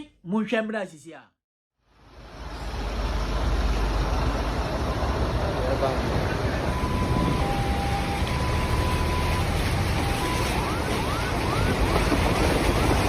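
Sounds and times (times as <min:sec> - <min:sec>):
floodwater rushing: 0:01.9 - 0:13.0.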